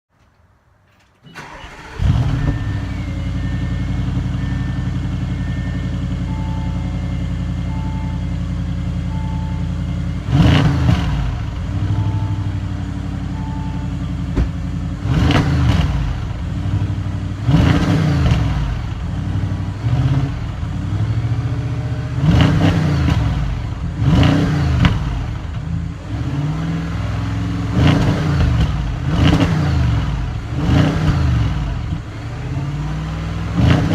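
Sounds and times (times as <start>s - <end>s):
car engine starting and revving: 1.3s - 33.9s.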